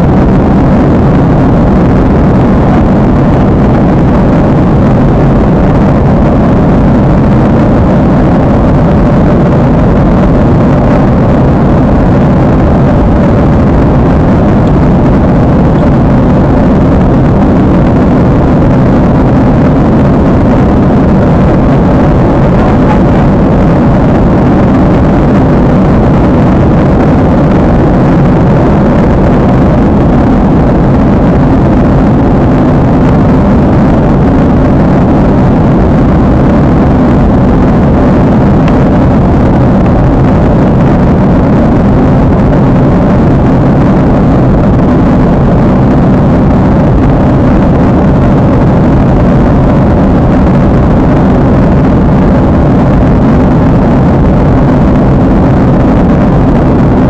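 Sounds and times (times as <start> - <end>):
jet cabin engine roar: 0.0 - 57.0.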